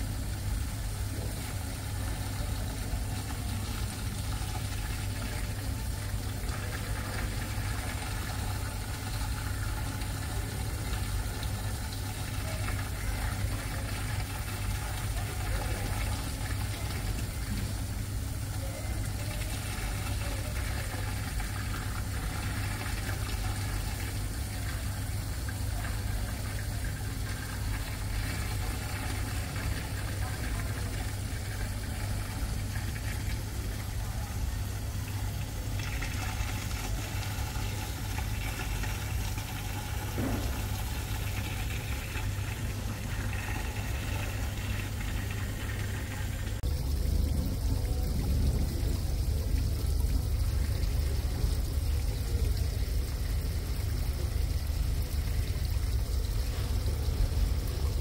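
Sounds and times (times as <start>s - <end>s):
low room hum: 0.0s - 58.0s
murmur of distant voices: 0.0s - 58.0s.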